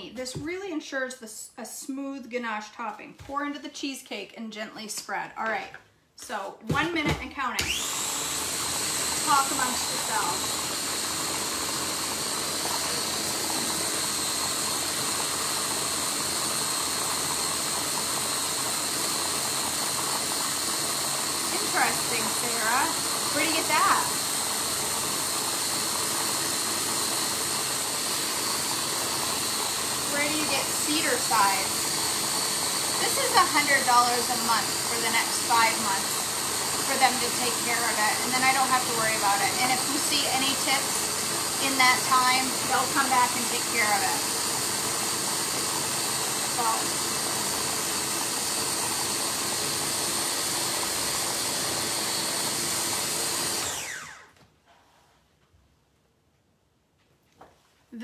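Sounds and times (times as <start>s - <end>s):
food chopper motor whine: 7.4s - 54.4s.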